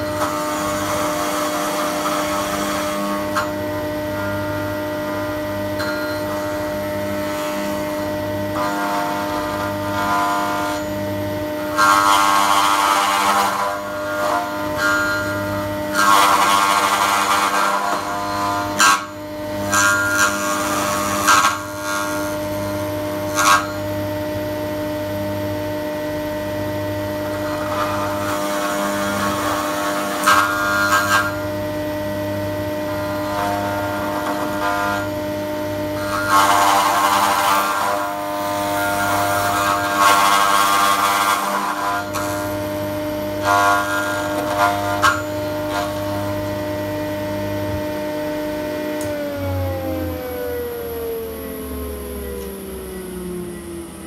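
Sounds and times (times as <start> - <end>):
power tool bit cutting wood: 0.0 - 23.9, 27.2 - 31.6, 32.8 - 50.4.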